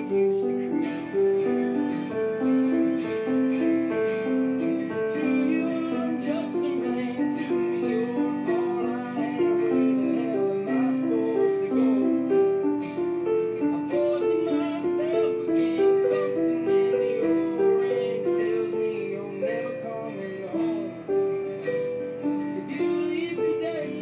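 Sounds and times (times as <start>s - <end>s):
acoustic guitar backing: 0.0s - 24.0s
piano repeating pattern: 0.0s - 24.0s.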